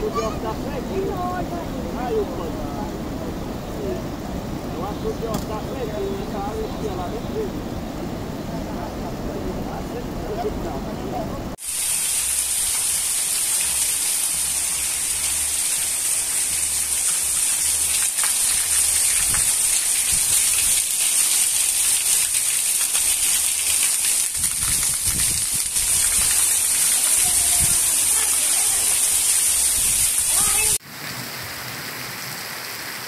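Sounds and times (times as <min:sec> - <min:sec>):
heavy rain on pavement: 0:00.0 - 0:10.7, 0:11.5 - 0:33.0.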